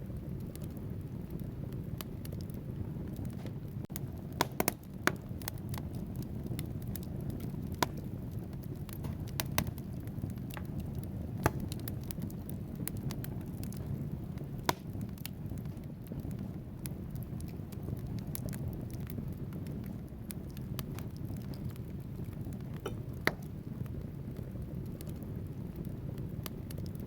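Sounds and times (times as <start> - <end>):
logs crackling and popping: 0.0 - 27.0
low rumble of flames: 0.0 - 27.0.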